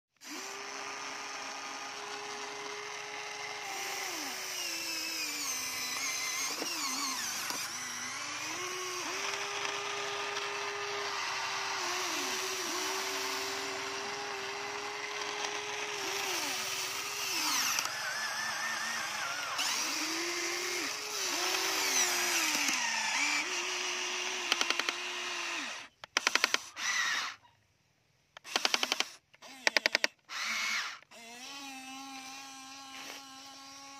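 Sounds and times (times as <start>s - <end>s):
electric gear motors whining: 0.2s - 27.4s, 28.4s - 33.9s.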